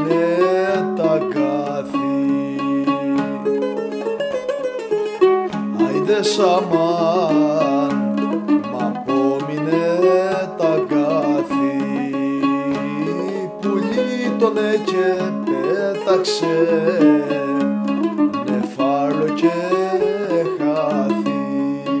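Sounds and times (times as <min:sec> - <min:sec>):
mandolin plucked melody: 0:00.0 - 0:22.0.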